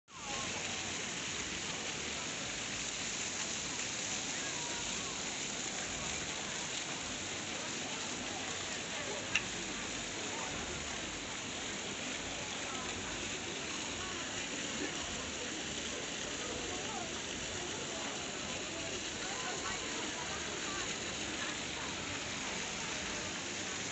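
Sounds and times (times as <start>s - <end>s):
faint voices: 0.1s - 23.9s
fountain jets splashing on stone: 0.1s - 23.9s.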